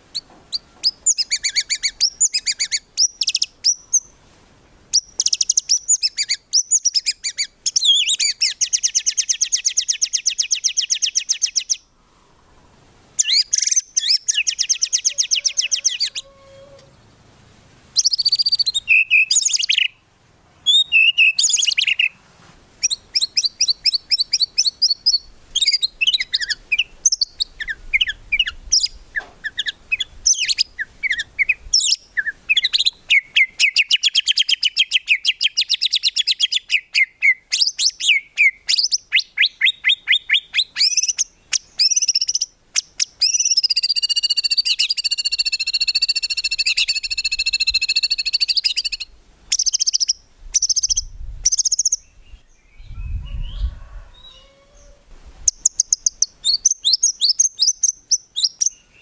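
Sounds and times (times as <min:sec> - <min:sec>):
songbird singing trills and whistles: 0:00.1 - 0:04.2, 0:04.9 - 0:11.9, 0:13.2 - 0:16.9, 0:17.9 - 0:20.0, 0:20.6 - 0:22.2, 0:22.8 - 0:59.0.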